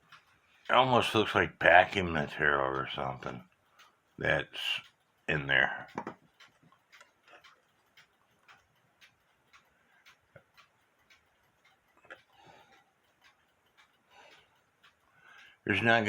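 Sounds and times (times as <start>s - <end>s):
alarm clock ticking: 0.0s - 16.0s.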